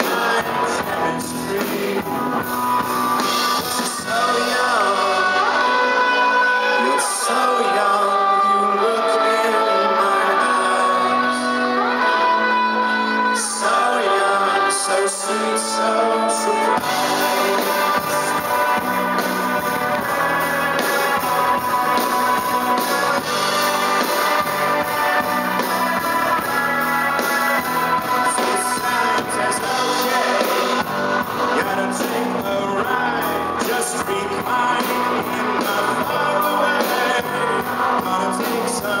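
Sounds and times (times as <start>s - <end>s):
drums: 0.0s - 39.0s
electric guitars: 0.0s - 39.0s
live rock band playing: 0.0s - 39.0s.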